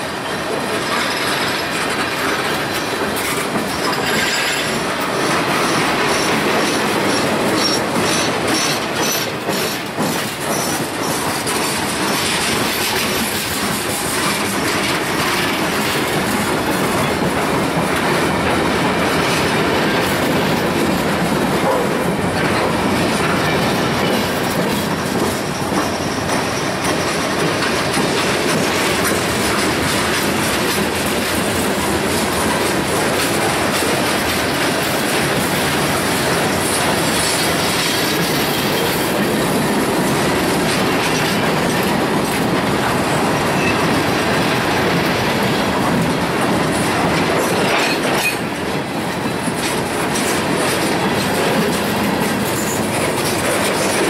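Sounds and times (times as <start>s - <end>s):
train wheels clattering: 0.0s - 54.0s.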